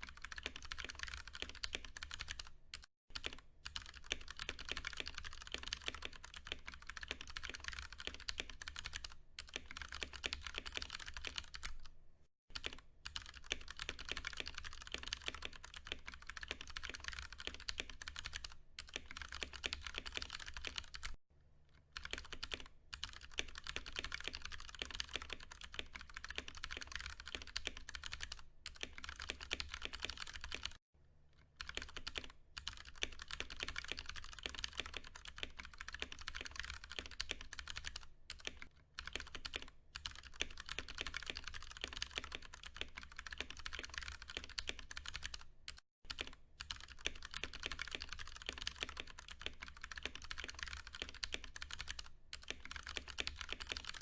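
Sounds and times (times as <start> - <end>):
fast mechanical keyboard typing: 0.0 - 11.9, 12.5 - 21.2, 22.0 - 30.8, 31.6 - 54.0.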